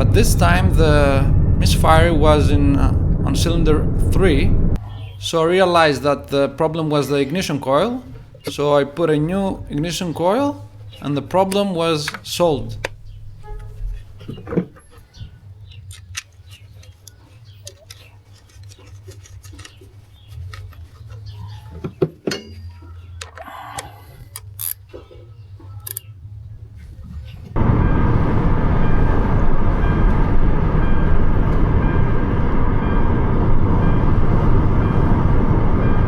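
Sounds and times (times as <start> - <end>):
car driving noise: 0.0 - 22.2, 22.8 - 36.0
low steady hum: 0.0 - 36.0.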